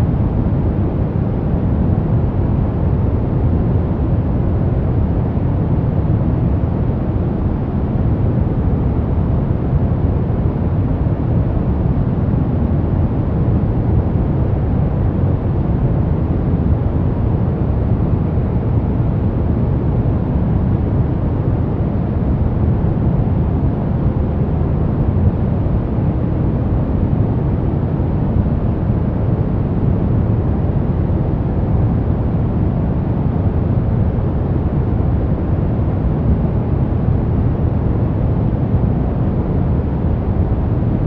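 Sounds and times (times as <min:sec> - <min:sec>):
deep steady white noise: 0:00.0 - 0:41.0.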